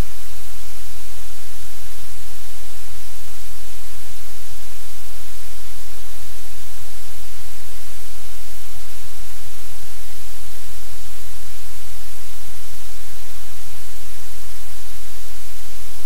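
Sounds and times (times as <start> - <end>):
low electrical hum: 0.0 - 16.0
static hiss: 0.0 - 16.0.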